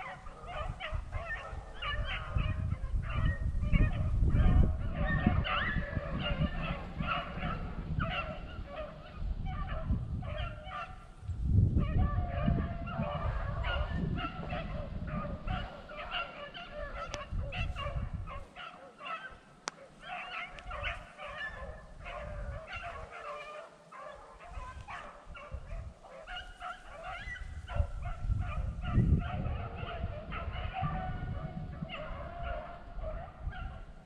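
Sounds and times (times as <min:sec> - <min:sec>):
hounds baying: 0:00.0 - 0:11.2, 0:11.8 - 0:34.0
wind on microphone: 0:00.0 - 0:18.7, 0:19.3 - 0:23.4, 0:24.2 - 0:34.0.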